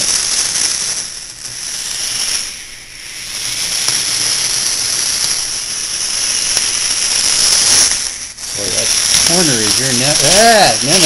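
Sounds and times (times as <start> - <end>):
small electric motors whirring: 0.0 - 11.0.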